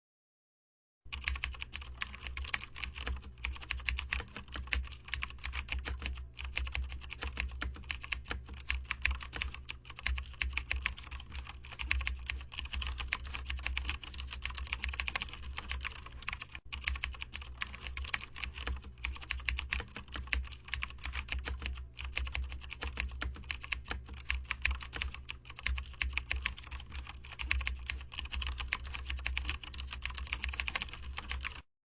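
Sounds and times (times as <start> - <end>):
rapid keyboard typing: 1.1 - 31.7.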